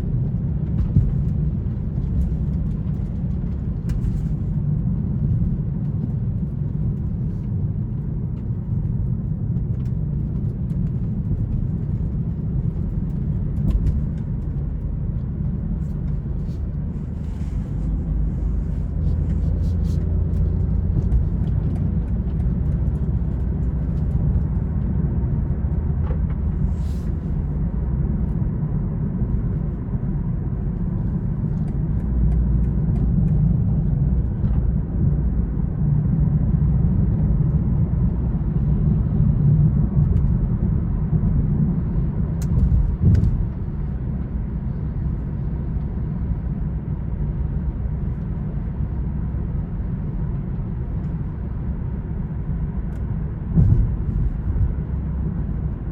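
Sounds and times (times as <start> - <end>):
car engine rumble: 0.0 - 55.9.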